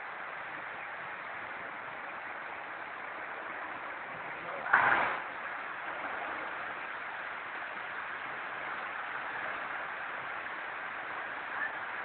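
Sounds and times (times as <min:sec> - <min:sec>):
heavy rain pouring: 0:00.0 - 0:12.0
strong wind: 0:00.0 - 0:12.0.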